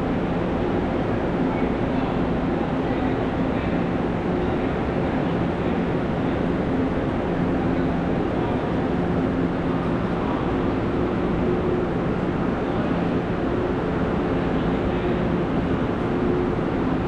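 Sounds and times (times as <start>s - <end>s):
train rumbling with low hum: 0.0s - 17.0s.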